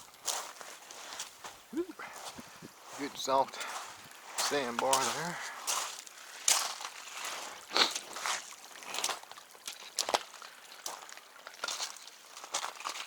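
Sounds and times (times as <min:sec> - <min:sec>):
footsteps on wet sand and gravel: 0:00.0 - 0:13.0.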